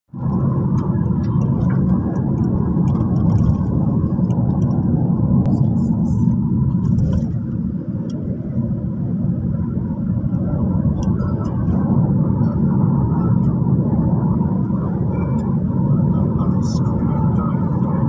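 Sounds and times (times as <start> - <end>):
vehicle road rumble: 0.1 - 18.0.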